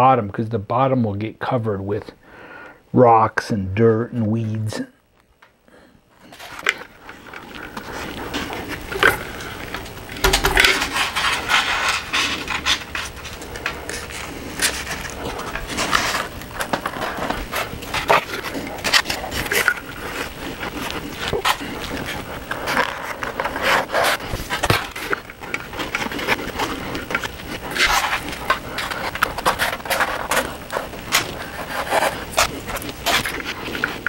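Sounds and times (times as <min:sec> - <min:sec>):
foam panels rubbing and scraping: 0:06.2 - 0:34.0.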